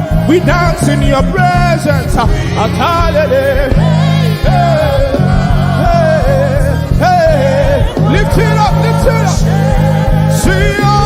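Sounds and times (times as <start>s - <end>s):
worship band playing: 0.0s - 11.0s.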